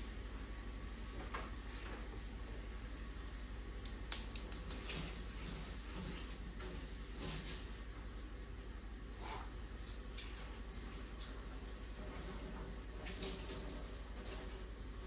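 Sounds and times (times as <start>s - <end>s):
steady low hum: 0.0s - 15.0s
water at kitchen sink: 0.0s - 15.0s.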